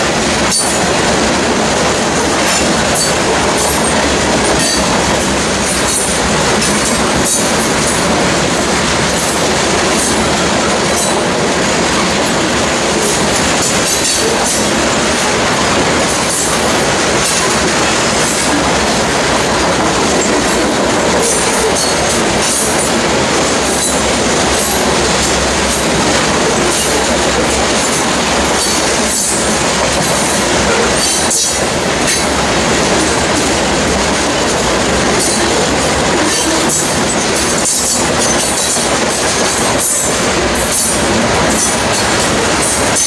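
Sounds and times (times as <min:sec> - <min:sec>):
steel wheels rumbling on rail: 0:00.0 - 0:43.0
wheels clicking over rail joints: 0:00.0 - 0:43.0.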